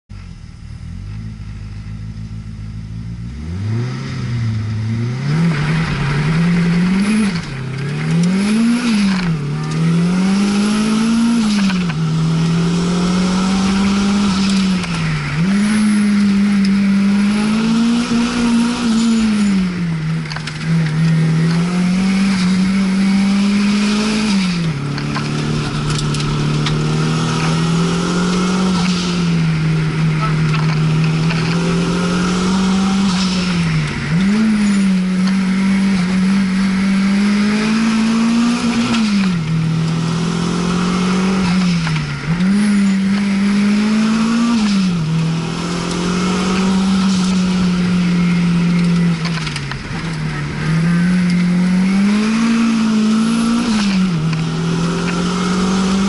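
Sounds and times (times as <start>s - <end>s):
car engine revving from inside: 0.7s - 56.0s.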